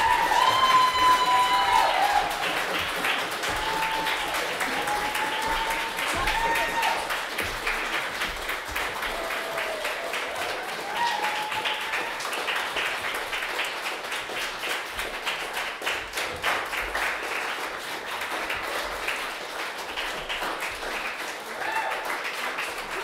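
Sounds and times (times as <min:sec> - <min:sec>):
audience applause: 0:00.0 - 0:23.0.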